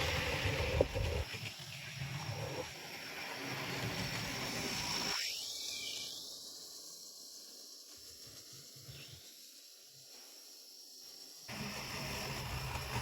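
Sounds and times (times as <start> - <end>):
model train motor hum: 0.0 - 13.0.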